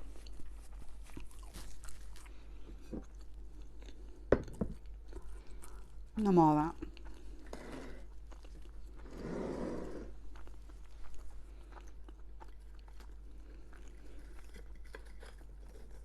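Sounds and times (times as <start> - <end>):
close chewing with crunches: 0.0 - 9.2, 10.0 - 16.0.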